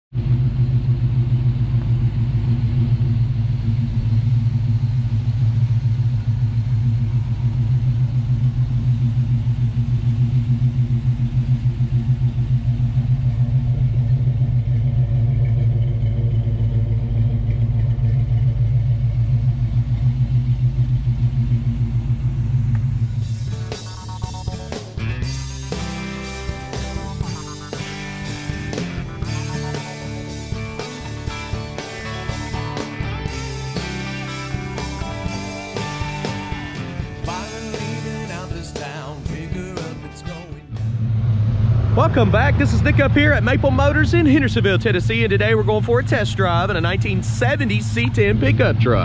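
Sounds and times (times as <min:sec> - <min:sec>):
vee eight engine idling: 0:00.1 - 0:49.0.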